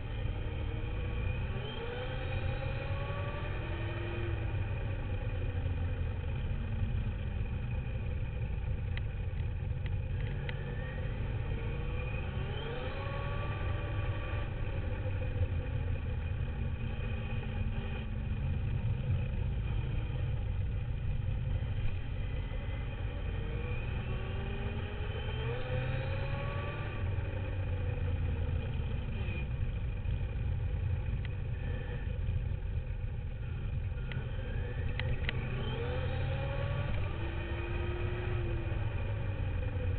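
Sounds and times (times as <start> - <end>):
low rumble of wheels on ground: 0.0 - 39.9.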